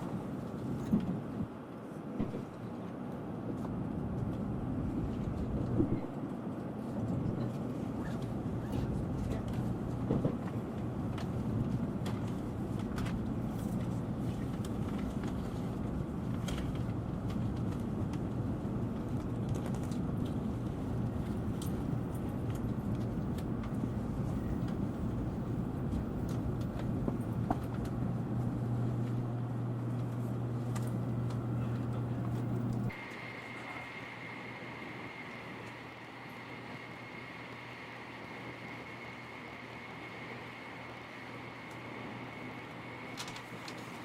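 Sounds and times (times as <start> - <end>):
train rumble inside carriage: 0.0 - 44.0
low steady hum: 7.1 - 44.0.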